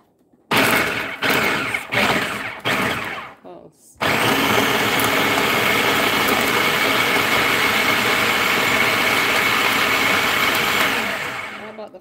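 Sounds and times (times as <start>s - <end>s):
food processor whining: 0.5s - 3.4s, 4.0s - 12.0s.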